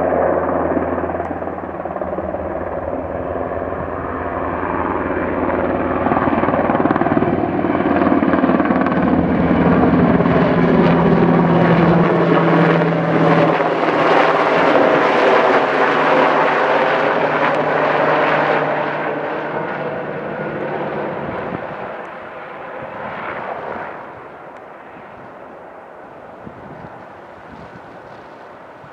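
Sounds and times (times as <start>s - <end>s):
helicopter passing overhead: 0.0s - 28.9s.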